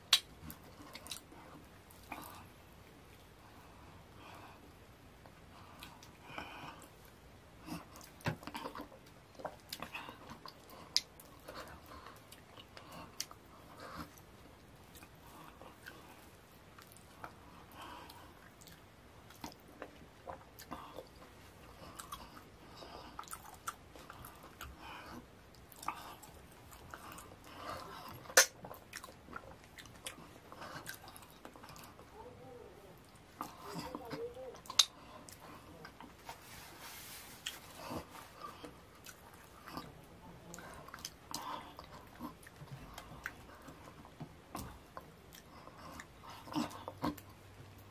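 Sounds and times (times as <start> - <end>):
chewing and mouth smacks: 0.0 - 3.4, 5.2 - 32.1, 33.0 - 36.6, 37.4 - 47.9.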